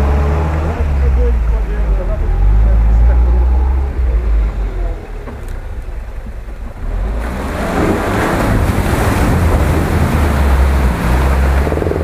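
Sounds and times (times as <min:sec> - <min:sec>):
off-road vehicle engine rumbling: 0:00.0 - 0:12.0
tyres splashing through mud: 0:00.0 - 0:12.0.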